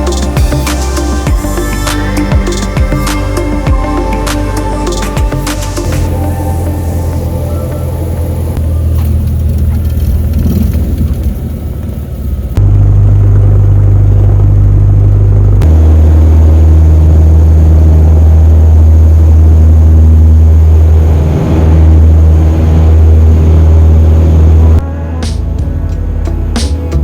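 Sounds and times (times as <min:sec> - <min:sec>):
propeller plane engine droning: 0:00.0 - 0:26.9.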